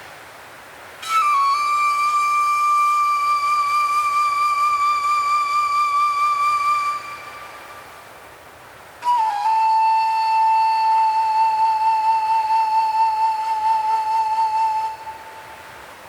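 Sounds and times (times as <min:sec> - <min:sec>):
soft wind hiss: 0:00.0 - 0:16.0
long flute note: 0:01.0 - 0:08.2, 0:09.0 - 0:15.8.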